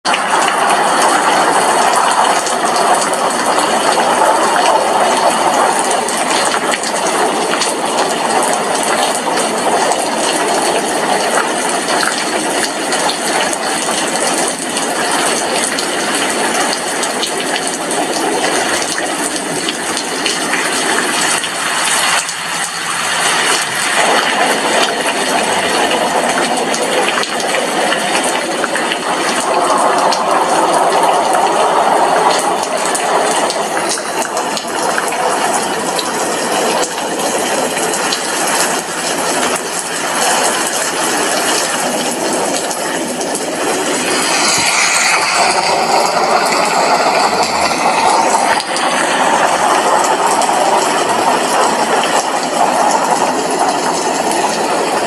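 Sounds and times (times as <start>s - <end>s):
heavy rain on window glass: 0.1s - 55.0s.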